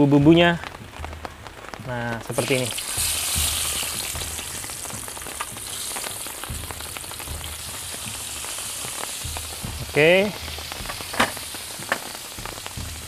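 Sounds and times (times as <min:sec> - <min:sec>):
vegetables frying in hot oil: 0:00.0 - 0:13.0.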